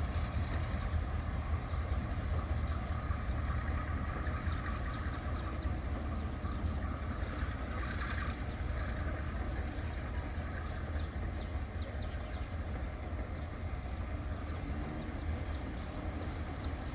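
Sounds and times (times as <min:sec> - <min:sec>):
birds chirping: 0:00.0 - 0:16.9
locomotive engine rumble: 0:00.0 - 0:16.9.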